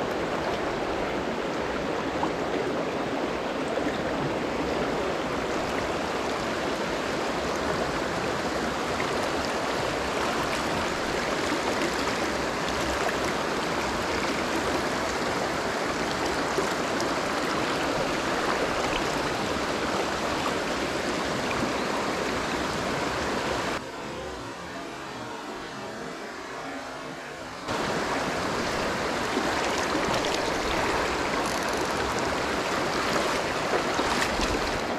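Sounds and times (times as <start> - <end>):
stream rushing over rocks: 0.0 - 23.8, 27.7 - 34.9.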